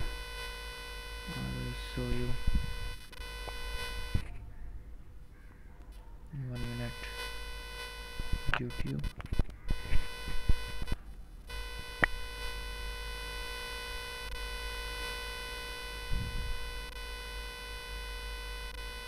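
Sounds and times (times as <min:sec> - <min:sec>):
electronic buzz: 0:00.0 - 0:04.3, 0:06.5 - 0:19.0.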